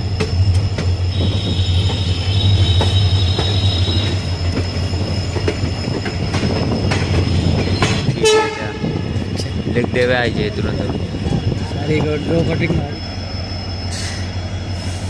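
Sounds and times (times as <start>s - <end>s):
high wheel squeal: 0.0s - 15.0s
train wheels rumbling on track: 0.0s - 15.0s.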